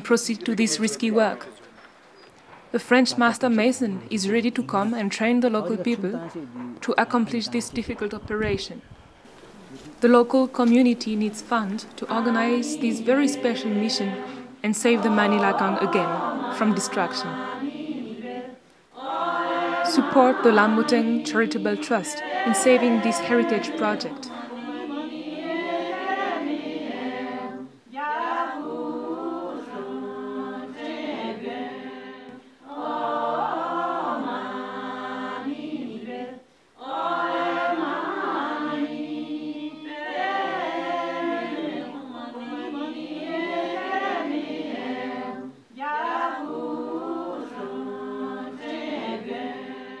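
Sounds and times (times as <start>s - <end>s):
unaccompanied voices singing: 0.0s - 50.0s.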